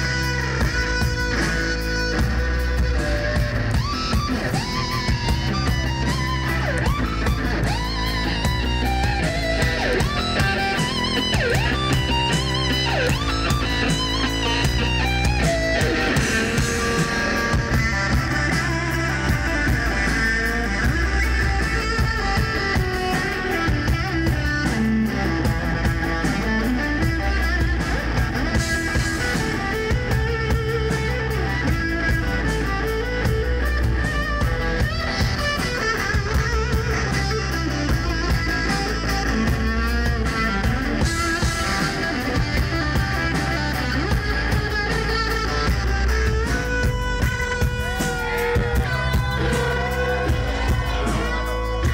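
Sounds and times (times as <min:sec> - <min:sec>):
drum kit: 0:00.0 - 0:51.9
electric guitar riff: 0:00.0 - 0:51.9.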